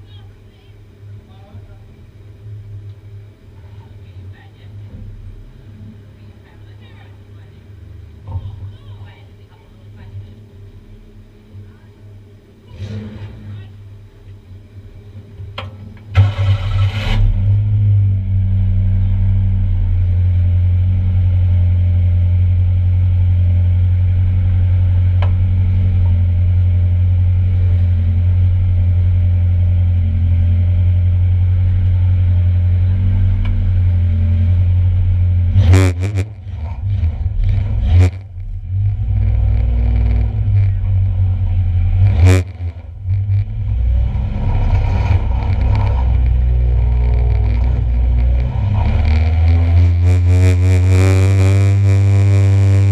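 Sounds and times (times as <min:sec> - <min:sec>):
race car engines rumbling: 0:00.0 - 0:52.9.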